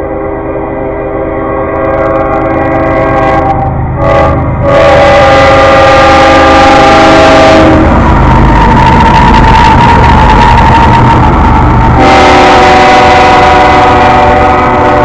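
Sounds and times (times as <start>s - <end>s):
locomotive air horn blasts: 0.0s - 11.2s, 11.9s - 15.0s.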